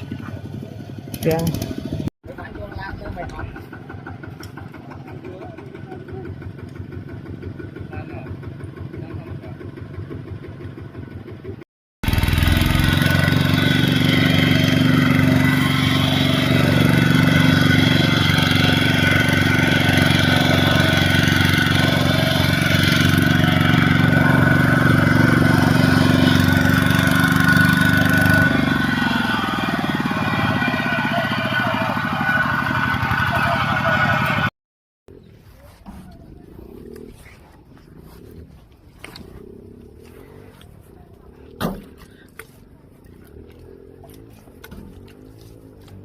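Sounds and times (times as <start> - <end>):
vehicle engine running: 0.0 - 34.5, 35.1 - 46.0.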